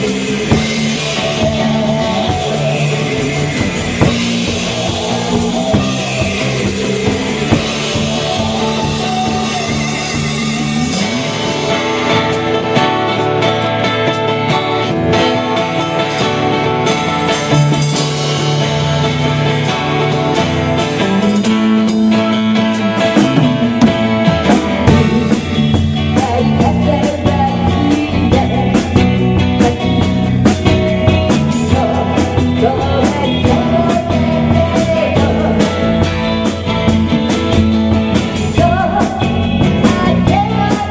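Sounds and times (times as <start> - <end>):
drum kit beat: 0.0 - 14.4, 15.8 - 40.9
rock band music: 0.0 - 40.9.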